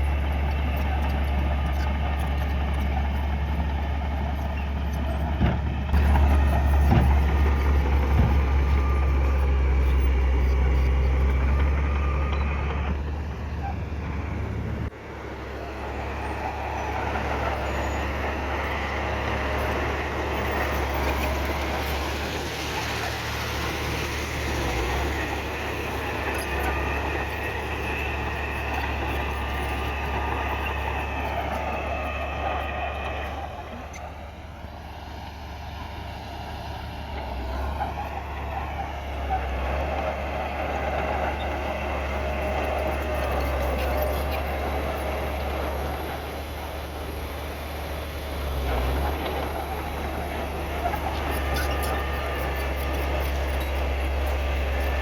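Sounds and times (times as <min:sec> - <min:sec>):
heavy diesel machinery drone: 0:00.0 - 0:55.0.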